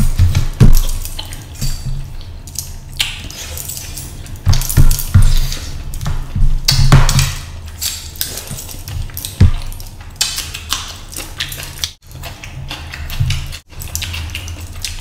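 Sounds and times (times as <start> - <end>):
fingers squishing food: 0.0 - 15.0
wet chewing and lip smacks: 0.1 - 6.1, 7.7 - 15.0.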